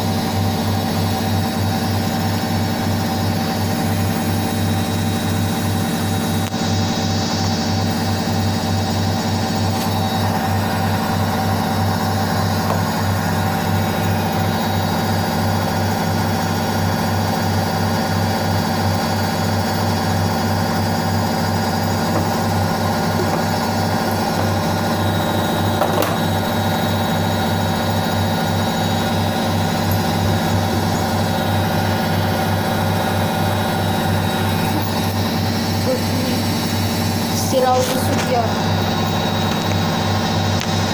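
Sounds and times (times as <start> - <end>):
washing machine running: 0.0 - 40.9.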